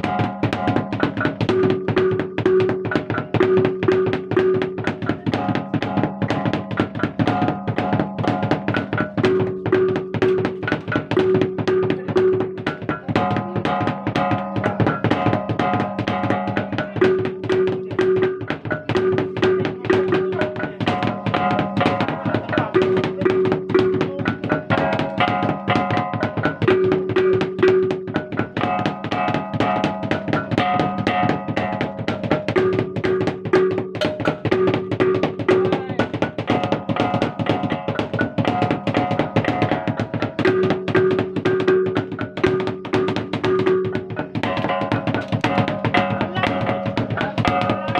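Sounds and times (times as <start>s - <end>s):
fast drum strokes: 0.0s - 47.9s.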